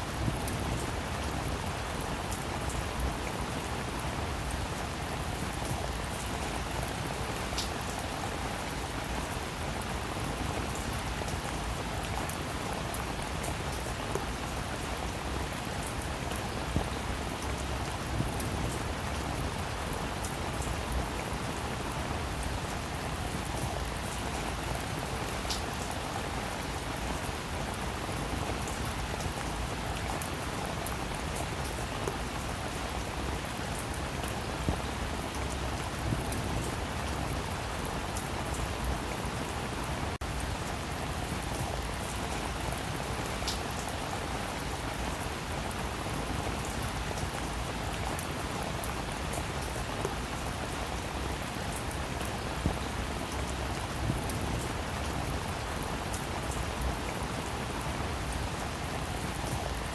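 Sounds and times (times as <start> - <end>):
raindrops pattering: 0.0 - 59.9.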